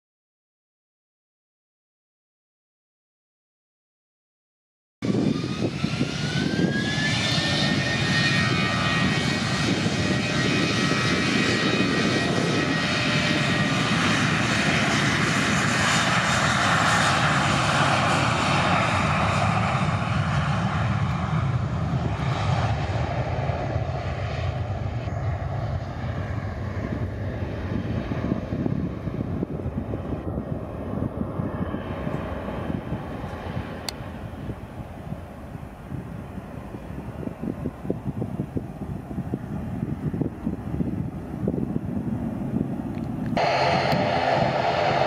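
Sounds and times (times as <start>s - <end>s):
high jet engine whine: 5.0s - 45.0s
jet engine roar: 5.0s - 45.0s.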